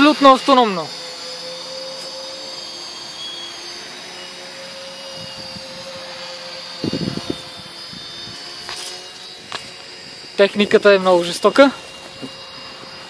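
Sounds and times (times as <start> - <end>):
quadcopter motors and propellers hovering: 0.0 - 13.0.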